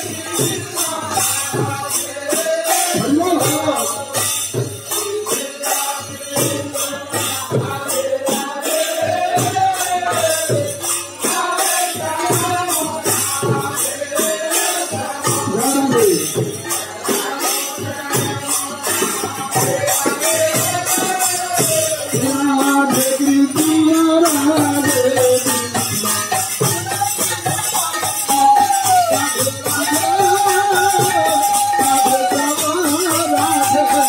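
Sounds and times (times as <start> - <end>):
devotional singing: 0.0 - 34.0
jingling percussion: 0.0 - 34.0.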